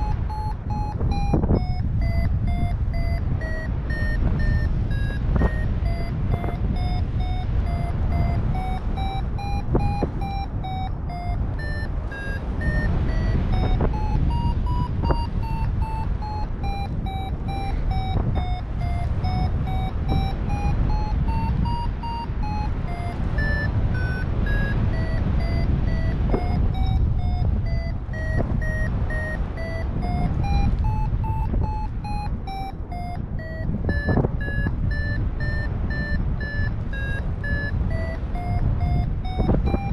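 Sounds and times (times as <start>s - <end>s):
variometer beeping: 0.0s - 39.9s
wind noise on microphone: 0.0s - 39.9s.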